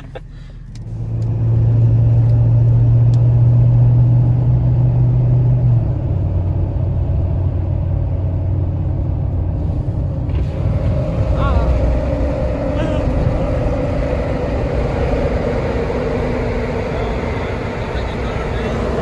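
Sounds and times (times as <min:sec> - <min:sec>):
truck engine and exhaust: 0:00.0 - 0:19.0.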